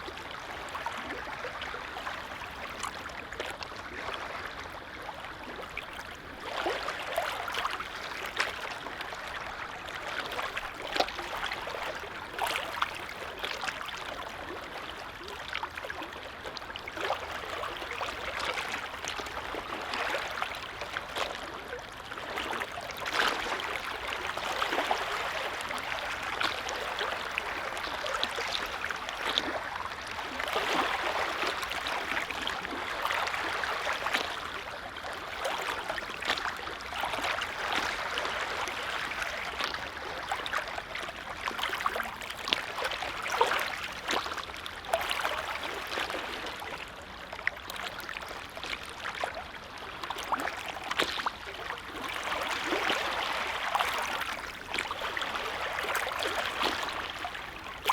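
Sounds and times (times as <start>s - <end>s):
lake waves lapping: 0.0s - 57.9s.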